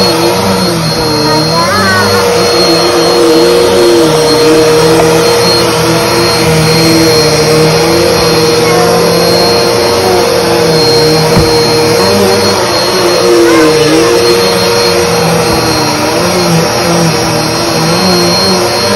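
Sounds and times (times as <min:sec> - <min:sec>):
vacuum cleaner running on carpet: 0:00.0 - 0:18.9.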